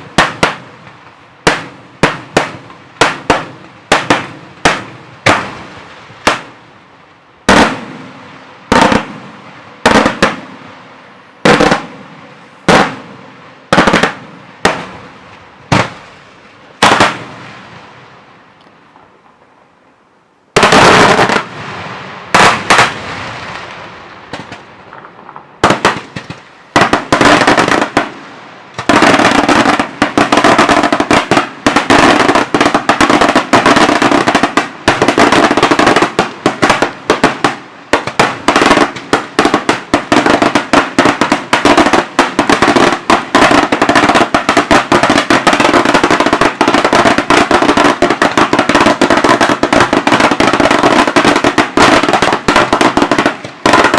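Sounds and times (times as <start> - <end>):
rapid firecracker bangs: 0.0 - 6.6, 7.4 - 10.7, 11.4 - 16.2, 16.8 - 17.7, 20.6 - 53.9
fireworks blasts with echoes: 0.0 - 19.9, 20.5 - 53.9.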